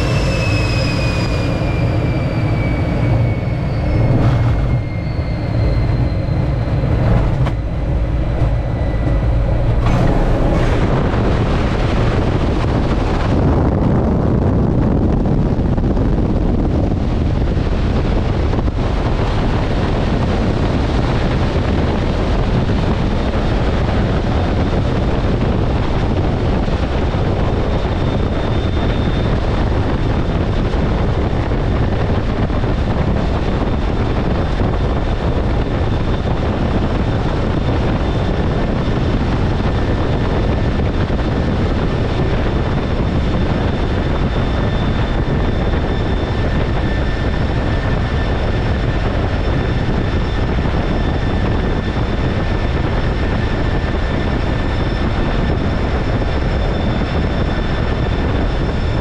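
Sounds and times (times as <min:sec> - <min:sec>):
jet engine cockpit noise: 0:00.0 - 0:59.0.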